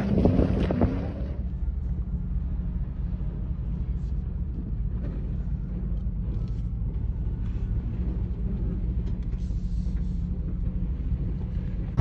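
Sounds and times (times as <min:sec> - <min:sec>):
off-road vehicle engine rumble: 0:00.0 - 0:12.0.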